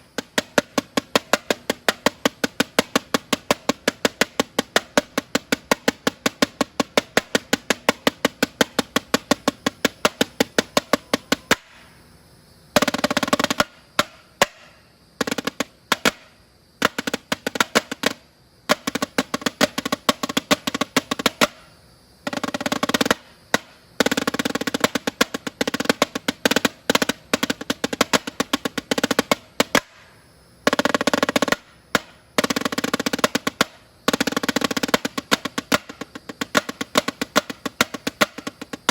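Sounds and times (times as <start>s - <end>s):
snare drum strokes and rolls: 0.0s - 11.8s, 12.8s - 21.6s, 22.2s - 30.0s, 30.7s - 38.9s.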